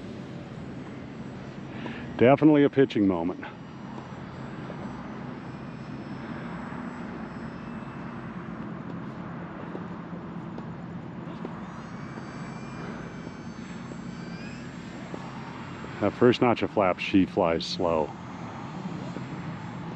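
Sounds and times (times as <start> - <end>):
high wavering whine: 0.0 - 19.9
model airplane motor drone: 0.0 - 19.9
outdoor noise: 0.0 - 19.9.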